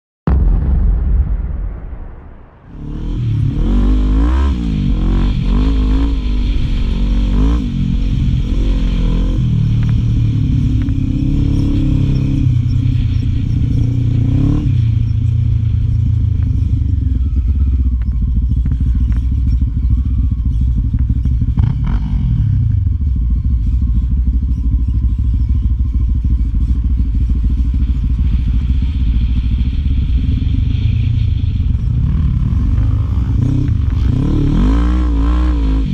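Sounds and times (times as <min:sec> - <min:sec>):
quad bike engine revving: 0:02.9 - 0:31.2, 0:31.8 - 0:35.9.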